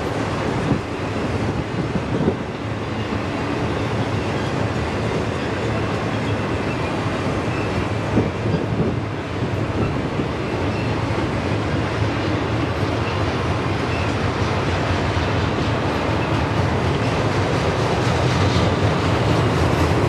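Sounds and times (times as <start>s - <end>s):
freight train rolling past: 0.0s - 20.0s
train wheels rumbling on rails: 0.0s - 20.0s.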